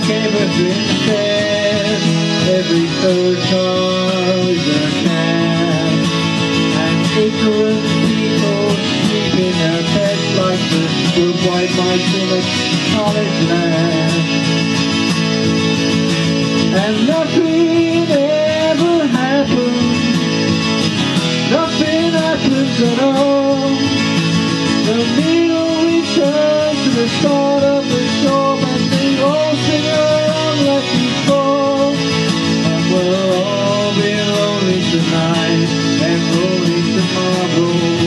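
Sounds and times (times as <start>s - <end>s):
small band playing live: 0.0s - 38.0s
wavering guitar lead melody: 0.0s - 38.0s.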